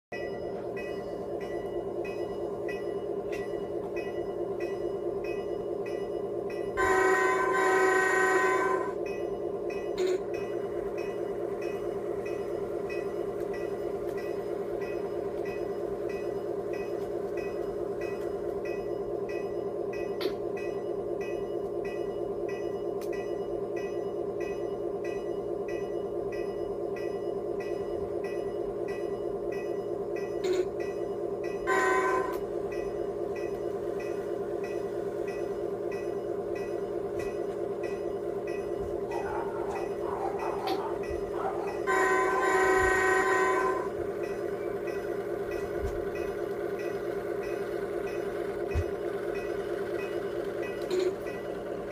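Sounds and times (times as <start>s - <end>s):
diesel engine drone: 0.1s - 51.9s
model train rattling on track: 0.2s - 51.9s
bell ringing: 8.4s - 51.9s.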